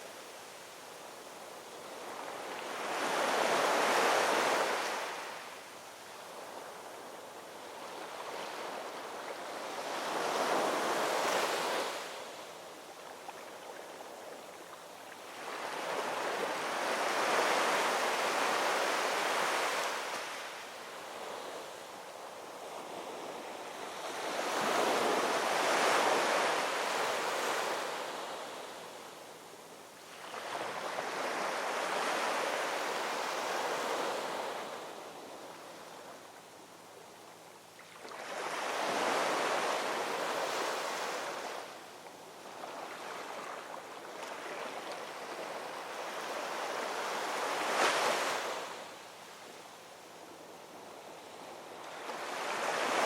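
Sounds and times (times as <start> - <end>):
ocean waves breaking on shore: 1.4 - 5.6, 6.2 - 29.2, 30.1 - 36.1, 37.8 - 49.4, 50.2 - 53.0.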